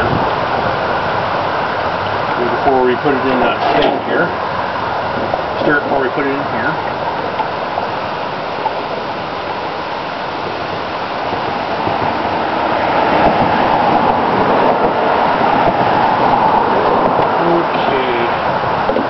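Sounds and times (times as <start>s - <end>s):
vehicle passing: 0.0s - 18.9s
road traffic: 0.0s - 19.0s
wind: 0.0s - 19.0s.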